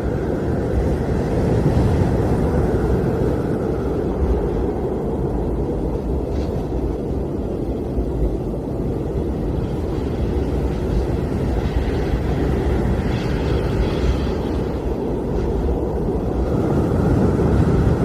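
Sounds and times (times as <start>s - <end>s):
blizzard wind rumbling: 0.0s - 18.0s
high wind hiss: 0.0s - 18.0s.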